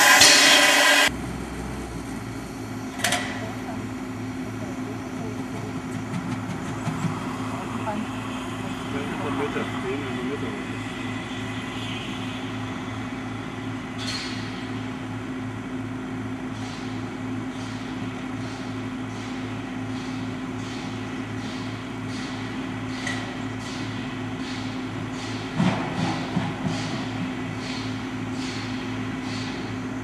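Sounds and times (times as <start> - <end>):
steam locomotive hissing: 0.0 - 1.9, 3.3 - 15.0, 17.6 - 30.0
diesel engine running: 0.0 - 30.0.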